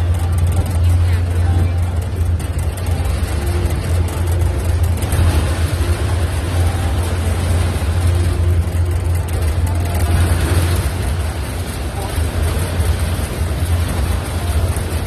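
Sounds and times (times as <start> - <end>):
boat engine humming: 0.0 - 15.0
constant rushing noise: 0.0 - 15.0.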